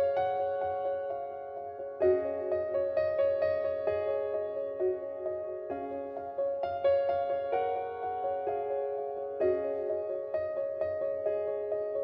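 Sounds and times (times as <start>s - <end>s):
soft keyboard music: 0.0s - 12.0s.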